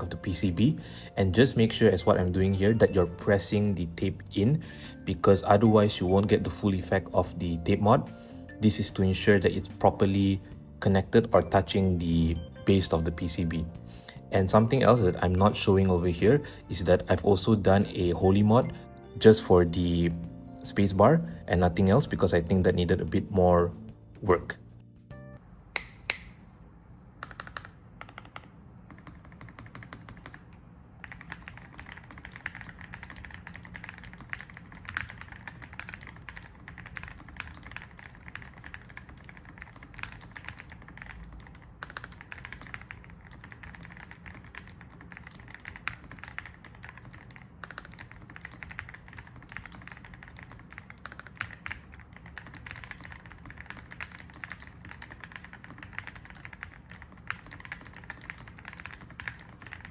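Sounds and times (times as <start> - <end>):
mechanical keyboard typing: 0.0 - 18.7, 27.2 - 59.9.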